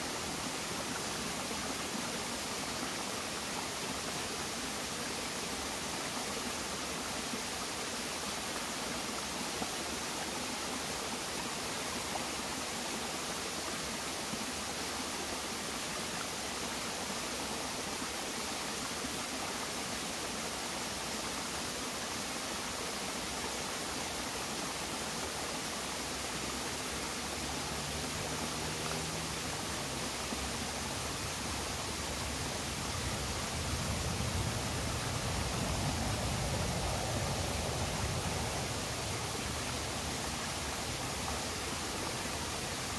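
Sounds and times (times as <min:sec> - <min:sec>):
stream rushing over stones: 0:00.0 - 0:42.9.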